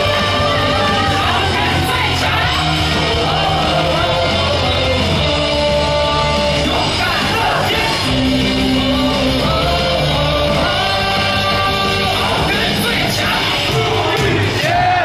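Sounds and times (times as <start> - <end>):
crowd singing and shouting: 0.0 - 15.0
stadium cheer music: 0.0 - 15.0.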